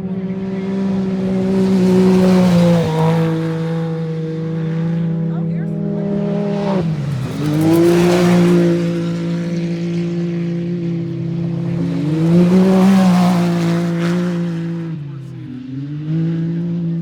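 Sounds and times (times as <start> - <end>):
race truck engines passing: 0.0 - 17.0.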